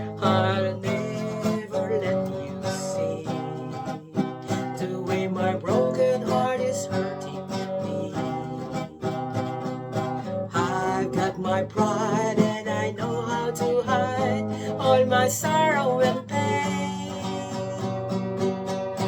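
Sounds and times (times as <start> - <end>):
song with strummed acoustic guitar: 0.0 - 19.0.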